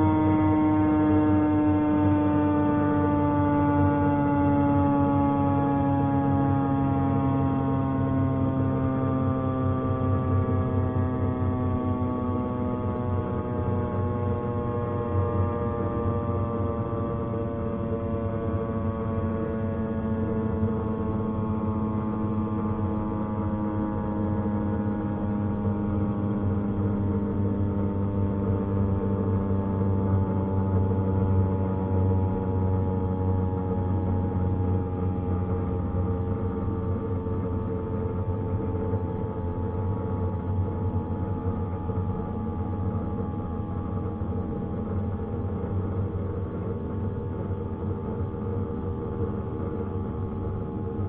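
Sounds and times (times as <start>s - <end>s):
warning siren winding down: 0.0s - 51.0s.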